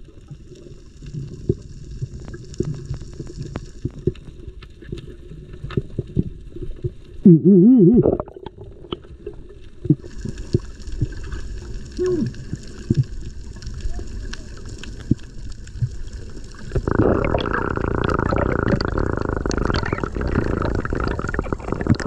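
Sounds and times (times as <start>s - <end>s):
bubbling gurgle: 0.0s - 22.0s
low underwater rumble: 0.0s - 22.0s.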